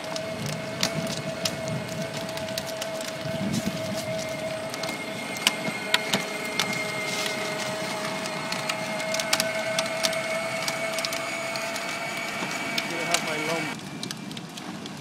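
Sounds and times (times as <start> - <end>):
toy vehicle motors whining: 0.0 - 14.9
plastic wheels crackling over ground: 0.0 - 15.0.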